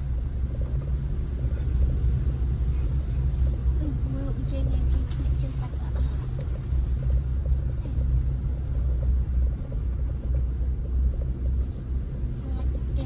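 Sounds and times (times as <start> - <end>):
vehicle rumbling through floodwater: 0.0 - 13.0.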